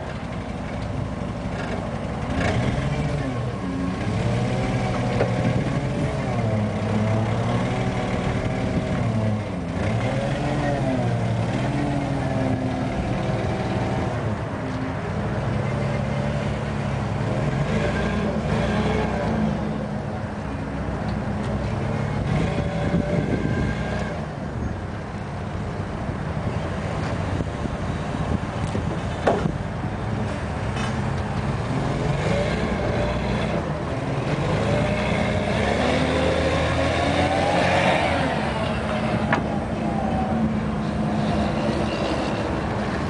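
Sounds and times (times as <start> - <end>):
forklift engine revving: 0.3 - 14.7, 15.4 - 20.2, 21.2 - 24.3, 30.1 - 43.0.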